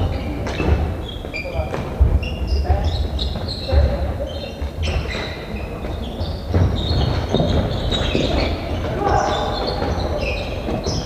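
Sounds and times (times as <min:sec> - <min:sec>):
sports shoes squeaking on court: 0:00.0 - 0:11.0.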